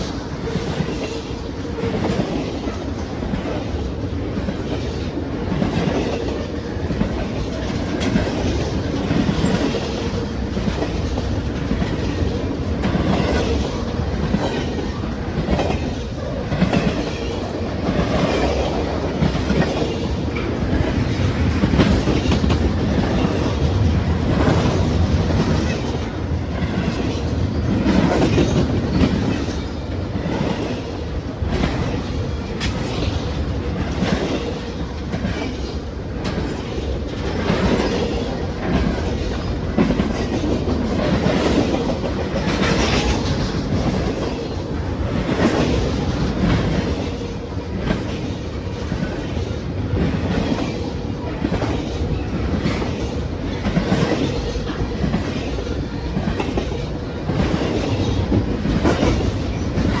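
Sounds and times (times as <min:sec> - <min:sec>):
freight train rumbling past: 0:00.0 - 1:00.0.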